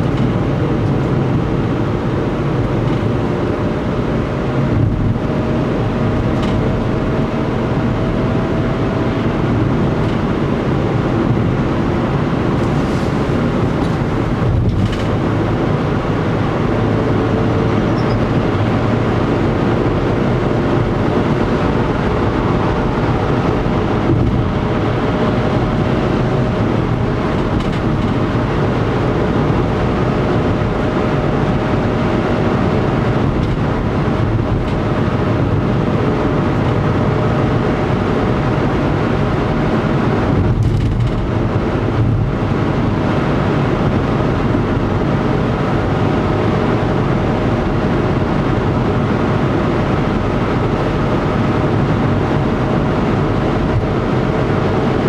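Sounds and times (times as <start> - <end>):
car engine drone: 0.0 - 55.0
tyre noise on road: 0.0 - 55.0.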